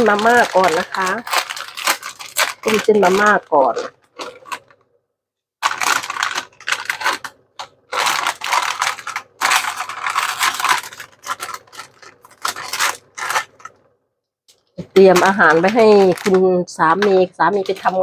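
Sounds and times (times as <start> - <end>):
plastic packets crinkling: 0.0 - 4.9, 5.6 - 13.9, 14.5 - 18.0.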